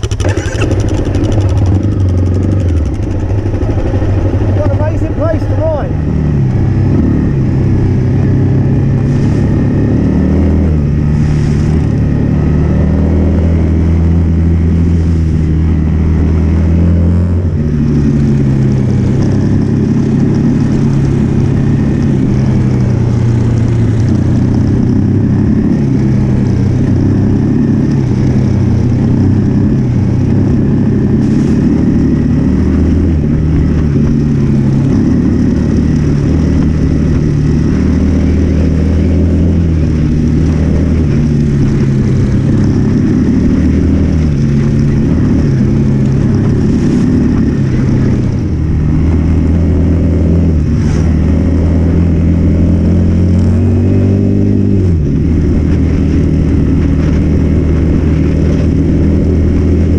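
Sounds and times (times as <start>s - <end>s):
trail bike engine revving: 0.0s - 59.9s.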